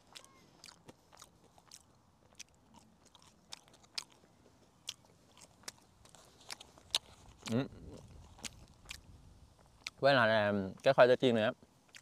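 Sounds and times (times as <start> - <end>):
person chewing crisp fries: 0.0 - 10.1.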